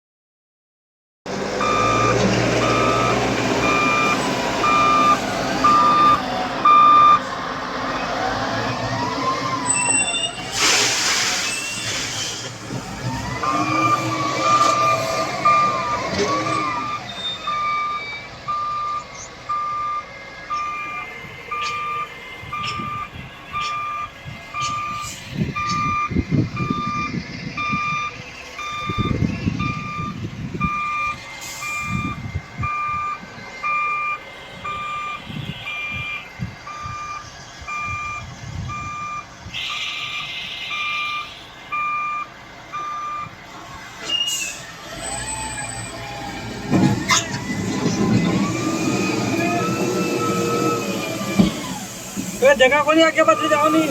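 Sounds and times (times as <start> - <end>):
diesel engines revving: 1.3 - 53.9
reversing alarm beeping: 1.6 - 7.3, 12.9 - 43.4, 45.0 - 53.9.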